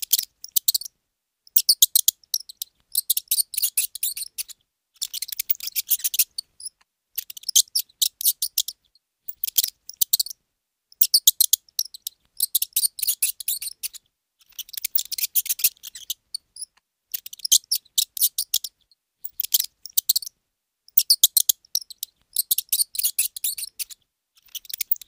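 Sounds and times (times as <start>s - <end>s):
young mice squeaking: 0.0s - 10.4s, 11.0s - 25.0s.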